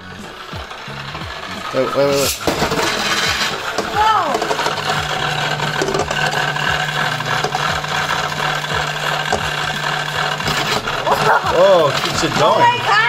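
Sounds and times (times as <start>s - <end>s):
motorized disc humming: 0.0s - 13.0s
spinning top whirring: 0.0s - 13.0s.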